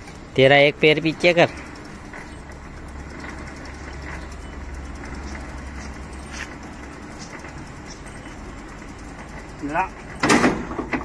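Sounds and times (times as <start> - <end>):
diesel engine turning over: 0.0 - 11.0.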